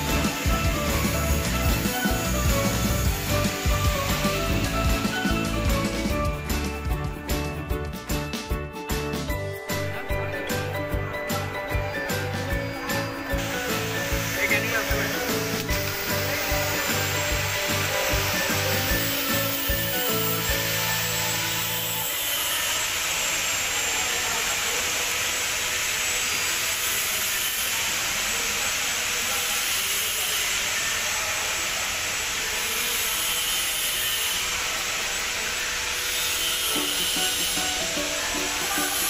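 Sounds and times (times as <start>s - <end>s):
industrial machinery hissing: 0.0s - 6.2s, 12.3s - 39.0s.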